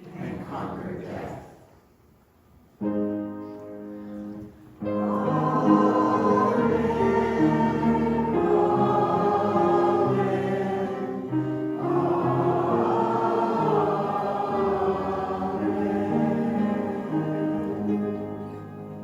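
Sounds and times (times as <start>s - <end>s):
church choir singing a hymn: 0.0s - 1.8s, 4.8s - 19.0s.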